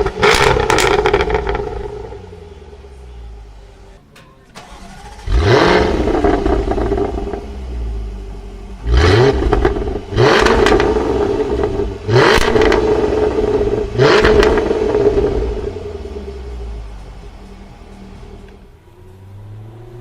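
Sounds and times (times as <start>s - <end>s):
car engine revving: 0.0s - 4.0s, 4.6s - 20.0s.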